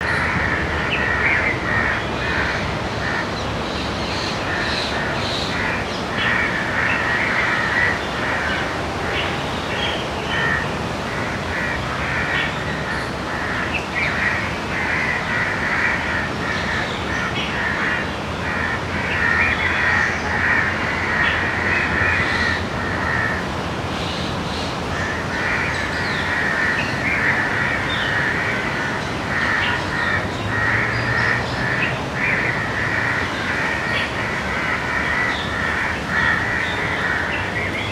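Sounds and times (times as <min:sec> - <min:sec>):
crows cawing: 0:00.0 - 0:03.4, 0:04.5 - 0:09.2, 0:10.3 - 0:23.5, 0:24.9 - 0:37.9.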